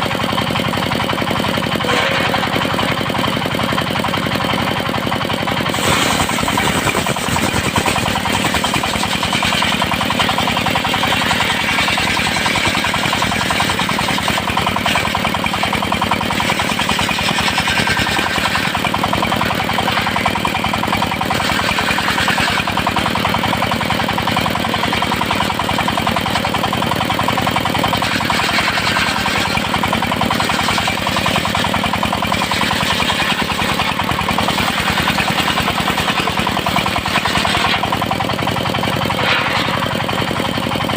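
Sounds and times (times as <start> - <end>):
circular sawmill sawing wood: 0.0 - 40.9
engine chugging: 0.0 - 40.9.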